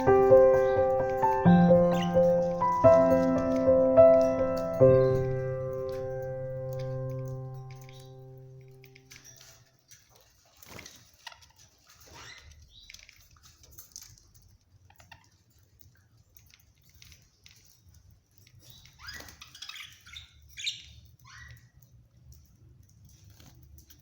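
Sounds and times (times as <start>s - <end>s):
cage birds chirping: 0.0s - 24.0s.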